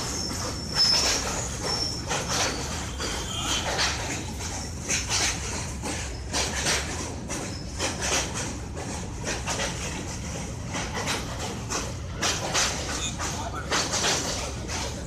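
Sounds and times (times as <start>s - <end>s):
metallic clattering and knocks: 0.0s - 15.0s
train rumble: 0.0s - 15.0s.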